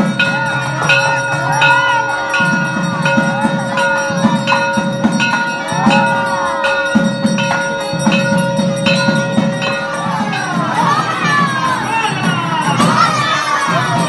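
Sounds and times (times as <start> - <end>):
bell struck in rhythm: 0.0 - 14.0
crowd shouting and calling: 0.0 - 14.0.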